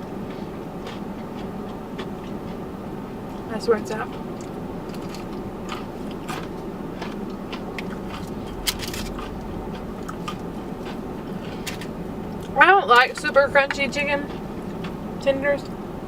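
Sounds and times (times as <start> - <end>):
crunchy chewing: 0.0 - 15.9.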